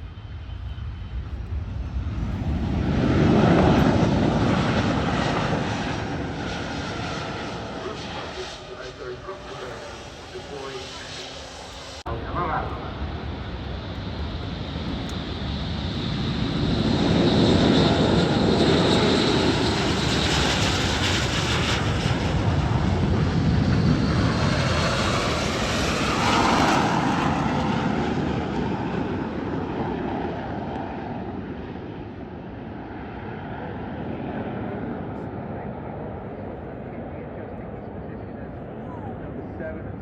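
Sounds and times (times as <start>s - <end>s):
aircraft passing overhead: 0.0s - 40.0s.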